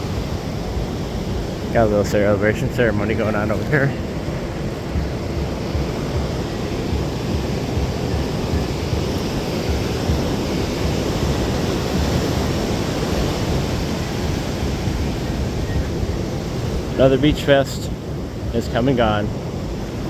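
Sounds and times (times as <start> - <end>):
ocean surf washing in: 0.0 - 20.0
wind buffeting the microphone: 0.0 - 20.0.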